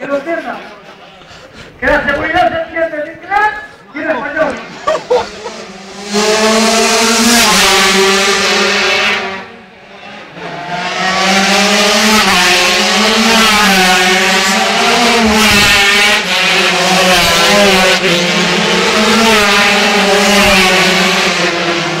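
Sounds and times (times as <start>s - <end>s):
racing motorcycles passing at speed: 4.4s - 22.0s.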